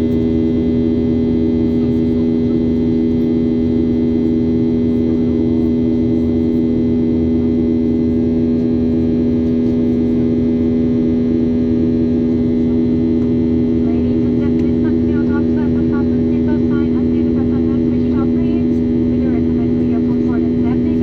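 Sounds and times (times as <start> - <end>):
airplane cabin drone: 0.0 - 21.0.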